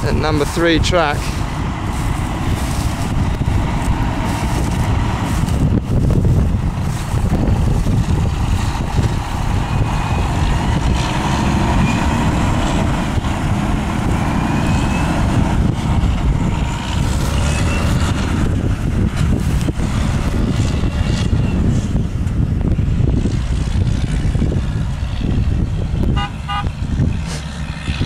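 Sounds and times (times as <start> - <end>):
diesel truck engine pulling away: 0.0 - 28.0
wind noise on microphone: 0.0 - 28.0.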